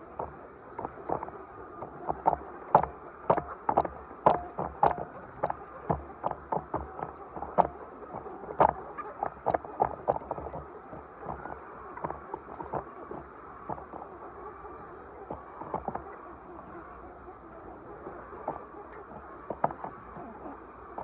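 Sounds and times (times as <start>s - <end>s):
sharp clicks and knocks: 0.0s - 14.1s, 15.3s - 16.1s, 18.1s - 20.4s
low steady background noise: 0.0s - 21.0s.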